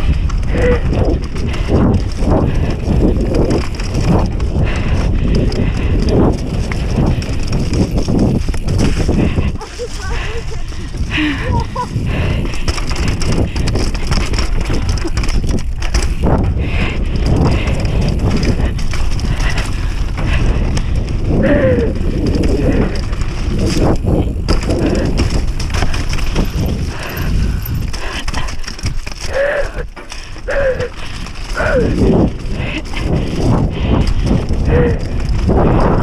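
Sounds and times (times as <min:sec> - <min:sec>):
bike rattling over bumps: 0:00.0 - 0:36.0
bike tyres crunching on dirt: 0:00.0 - 0:36.0.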